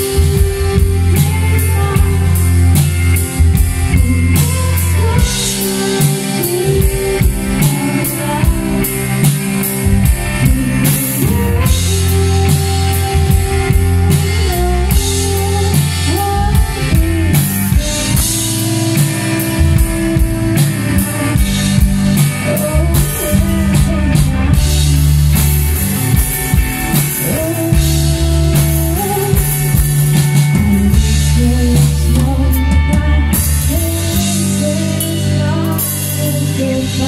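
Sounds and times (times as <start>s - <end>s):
woman singing into a microphone: 0.0s - 26.3s, 27.0s - 37.0s
drum kit: 0.0s - 37.0s
guitar: 0.0s - 37.0s.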